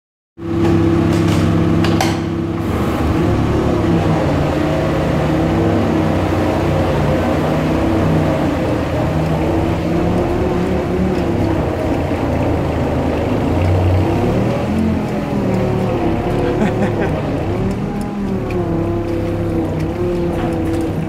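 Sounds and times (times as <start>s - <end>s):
ice resurfacer humming: 2.4s - 21.0s.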